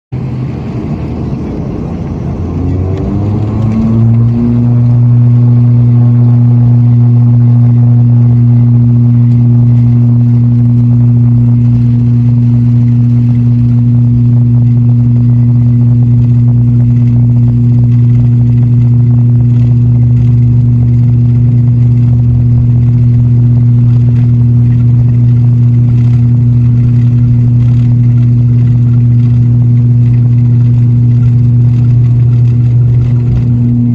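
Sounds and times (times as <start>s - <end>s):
turboprop engines spooling up: 0.2s - 33.9s.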